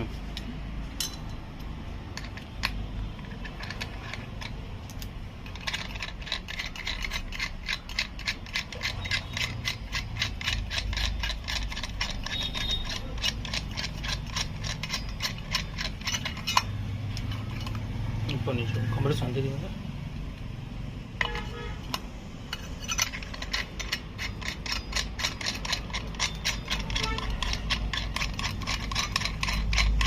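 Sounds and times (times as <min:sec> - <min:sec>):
rapid ratchet-like clicking: 0:01.0 - 0:18.5, 0:21.2 - 0:30.0.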